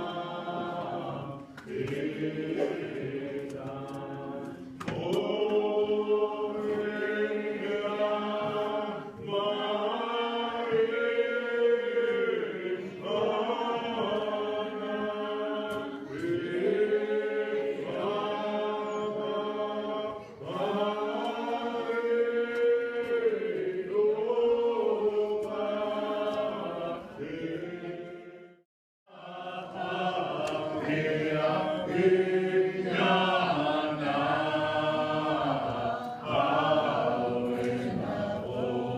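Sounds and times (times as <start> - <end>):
congregation singing a hymn: 0.0 - 38.9.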